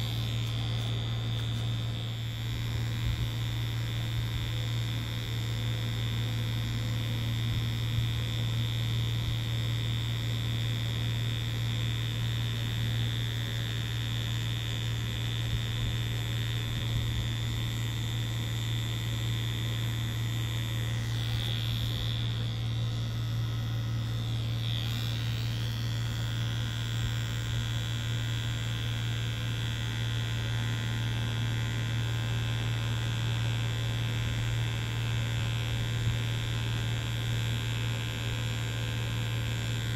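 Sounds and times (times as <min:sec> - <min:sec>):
tattoo machine buzzing: 0:00.0 - 0:39.9.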